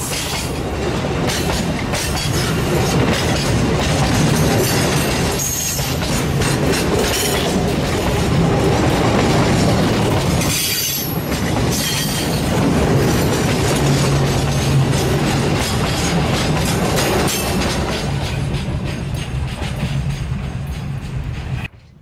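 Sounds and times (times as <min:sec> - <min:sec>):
train wheels clicking over rail joints: 0:00.0 - 0:22.0.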